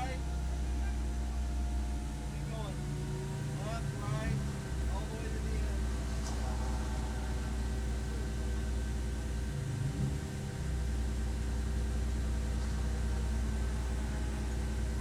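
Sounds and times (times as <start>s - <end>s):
race car engine running: 0.0s - 15.0s.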